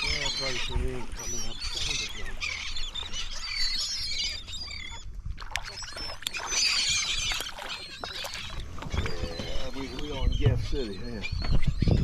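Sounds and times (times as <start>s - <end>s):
seabirds calling and squawking: 0.0s - 12.0s.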